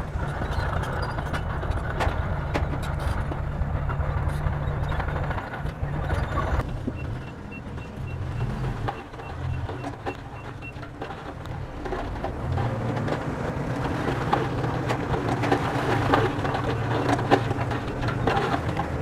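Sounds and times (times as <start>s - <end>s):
diesel engine running: 0.0s - 19.0s
crackles and knocks of soil: 0.1s - 19.0s.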